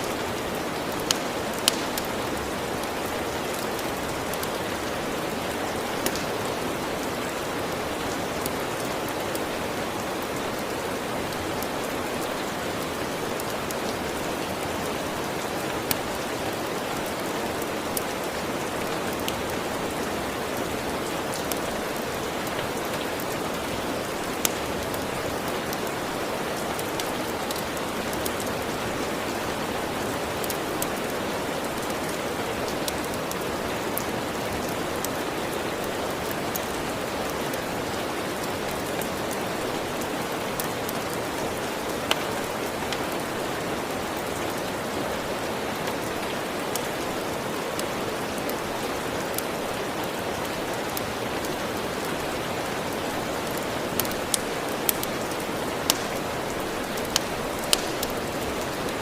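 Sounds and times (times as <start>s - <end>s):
steady rain falling: 0.0s - 59.0s
wood fire crackles: 0.0s - 59.0s.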